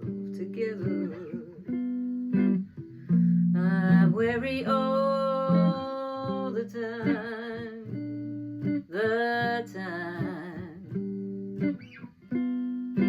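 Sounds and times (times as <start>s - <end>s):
guitar chords: 0.0s - 13.0s
woman singing blues: 0.0s - 13.0s.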